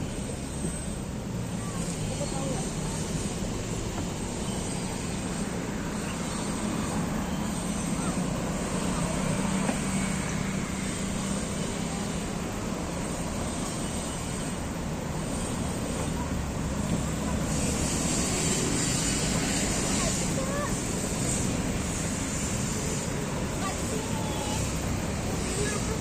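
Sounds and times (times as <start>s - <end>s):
distant city traffic rumble: 0.0s - 26.0s
high hiss: 0.0s - 26.0s.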